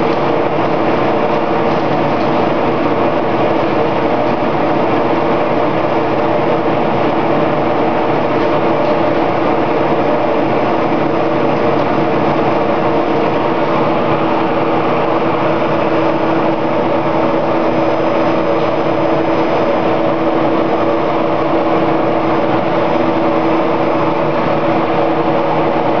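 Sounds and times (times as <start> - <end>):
press machine droning: 0.0 - 26.0.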